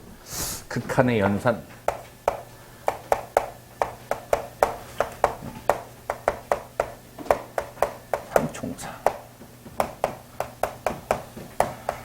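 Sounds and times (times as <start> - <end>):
writing tool tapping on board: 1.9 - 12.0.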